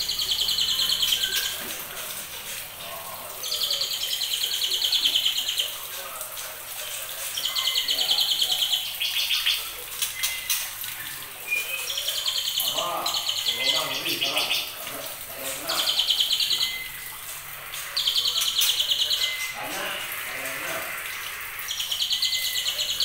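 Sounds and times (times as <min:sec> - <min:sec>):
birds high trilling calls: 0:00.0 - 0:05.9, 0:06.8 - 0:23.0.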